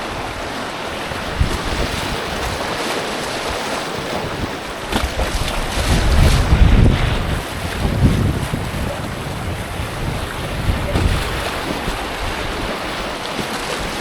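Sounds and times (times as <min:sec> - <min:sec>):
rushing creek water: 0:00.0 - 0:14.0
wind buffeting microphone: 0:00.0 - 0:14.0.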